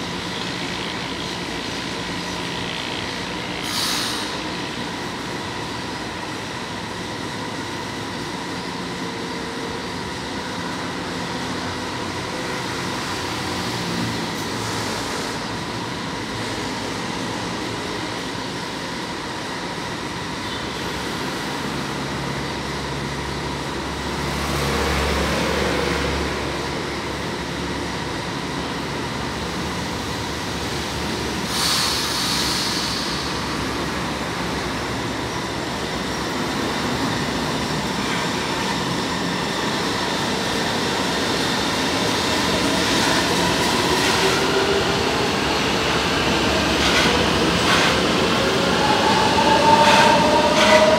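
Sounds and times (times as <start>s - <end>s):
train equipment humming: 0.0s - 50.9s.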